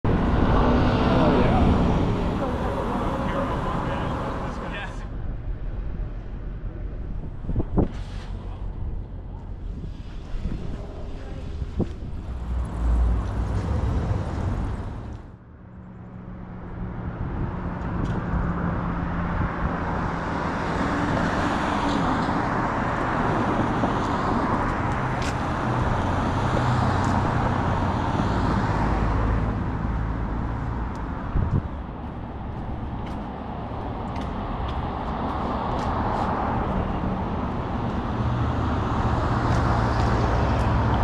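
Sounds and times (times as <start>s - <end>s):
street traffic passing: 0.0s - 41.0s.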